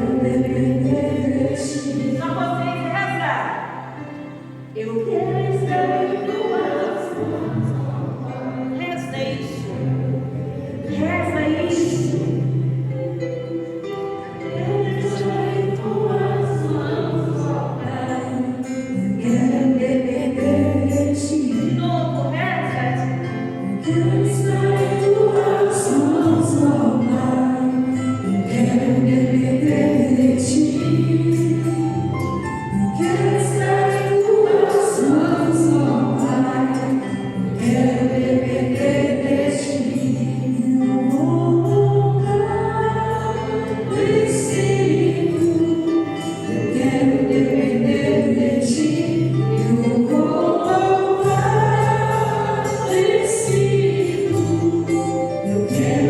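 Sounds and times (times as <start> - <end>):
group singing worship song: 0.0 - 2.4, 5.0 - 8.8, 14.4 - 22.1, 22.9 - 56.0.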